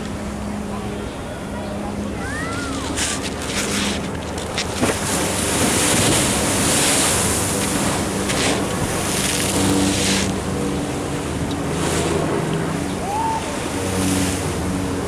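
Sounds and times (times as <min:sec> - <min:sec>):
waves splashing against sea wall: 0:01.8 - 0:15.0.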